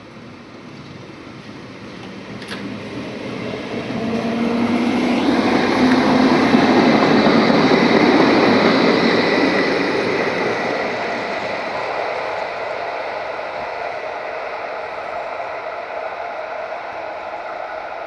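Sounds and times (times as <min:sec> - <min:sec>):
tram rolling: 0:00.0 - 0:18.0.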